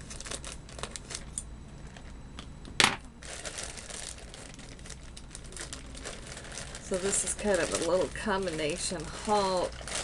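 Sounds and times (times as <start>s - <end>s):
package crinkling and rustling: 0.0s - 2.2s, 3.2s - 10.0s.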